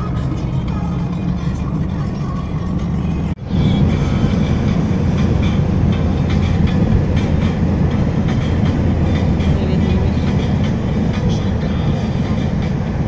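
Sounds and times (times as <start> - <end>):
vehicle rumble with rattling: 0.0 - 13.0.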